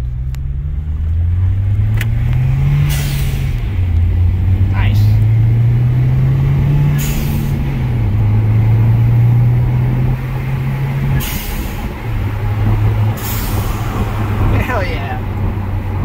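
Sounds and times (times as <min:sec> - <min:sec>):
turbocharged engine accelerating: 0:00.0 - 0:16.0.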